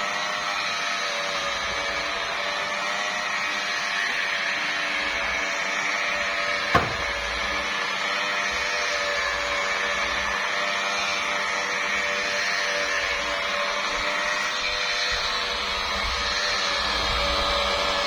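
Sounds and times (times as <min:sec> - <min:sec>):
electric polisher motor whine: 0:00.0 - 0:18.0.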